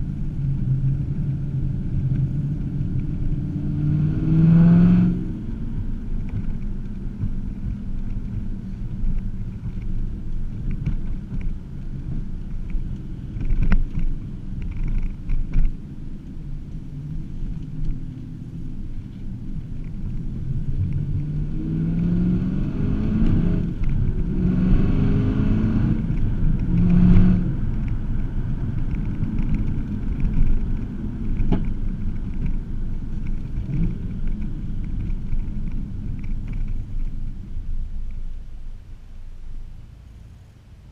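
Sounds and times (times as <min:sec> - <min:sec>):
car engine accelerating: 0:00.0 - 0:40.6.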